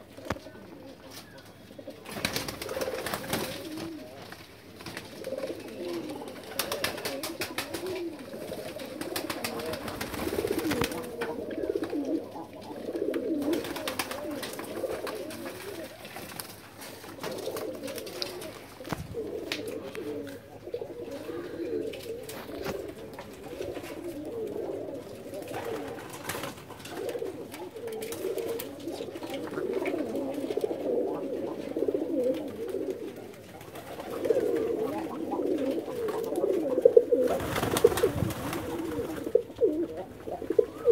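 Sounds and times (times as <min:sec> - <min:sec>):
pigeons cooing: 0:00.0 - 0:40.9
wings flapping: 0:02.0 - 0:12.1, 0:13.2 - 0:20.4, 0:21.8 - 0:24.6, 0:25.2 - 0:31.3, 0:32.2 - 0:40.9.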